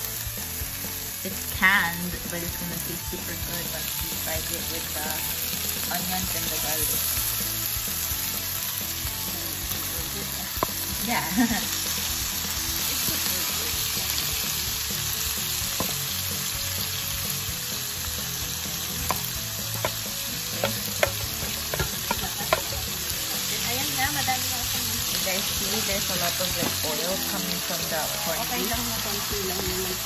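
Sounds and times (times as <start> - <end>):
food sizzling in frying pan: 0.0 - 30.0.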